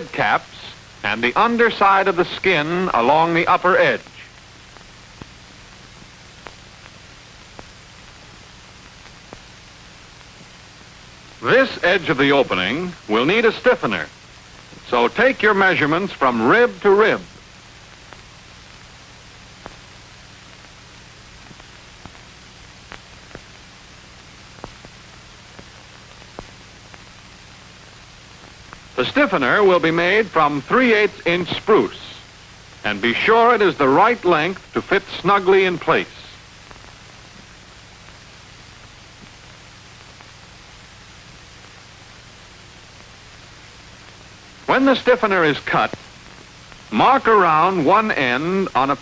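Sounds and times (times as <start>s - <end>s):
film soundtrack surface noise: 0.0s - 49.0s.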